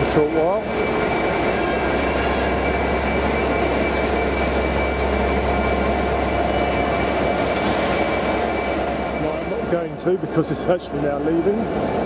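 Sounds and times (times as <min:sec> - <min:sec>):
diesel locomotive idling: 0:00.0 - 0:12.0
thin whine: 0:00.0 - 0:12.0.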